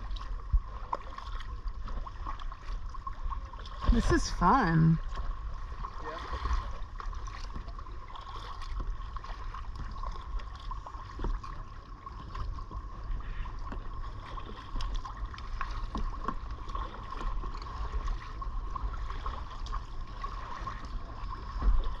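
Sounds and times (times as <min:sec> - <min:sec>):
kayak paddle strokes: 0:00.0 - 0:22.0
water splashing and lapping: 0:00.0 - 0:22.0.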